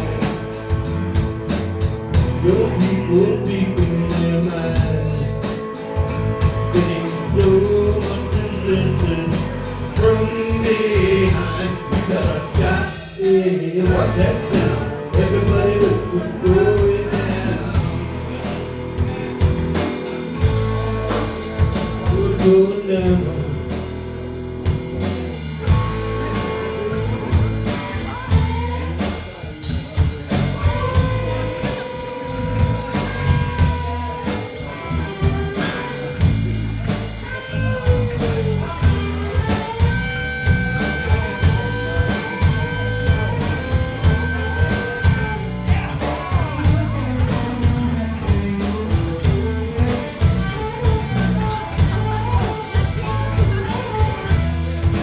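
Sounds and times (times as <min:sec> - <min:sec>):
drum kit beat: 0:00.0 - 0:55.0
electric guitar lead: 0:00.0 - 0:55.0
walking bass line: 0:00.0 - 0:55.0.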